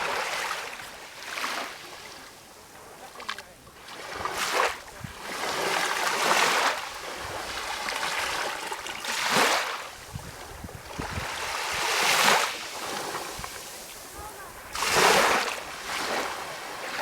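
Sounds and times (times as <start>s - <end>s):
small sea waves washing in: 0.0s - 17.0s.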